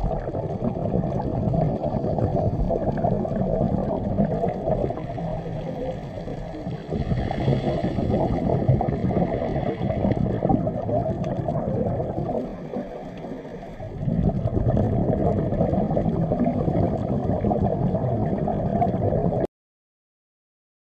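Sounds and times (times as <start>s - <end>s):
underwater rumbling and gurgling: 0.0s - 19.5s.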